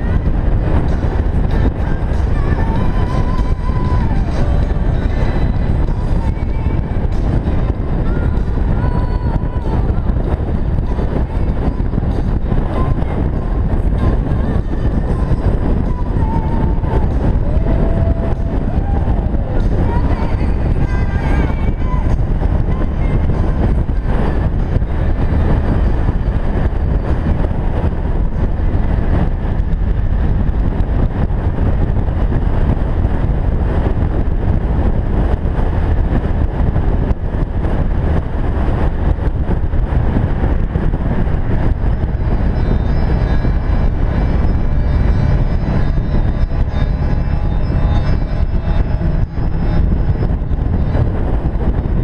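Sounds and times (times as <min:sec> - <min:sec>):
motorcycle cruising at speed: 0:00.0 - 0:52.0
wind noise on microphone: 0:00.0 - 0:52.0.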